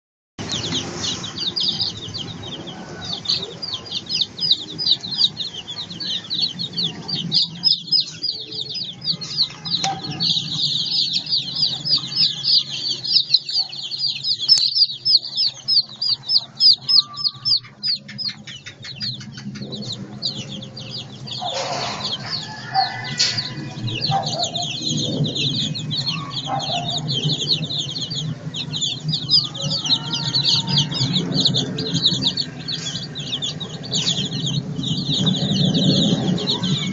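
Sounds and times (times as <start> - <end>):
chicks peeping: 0.4 - 36.9.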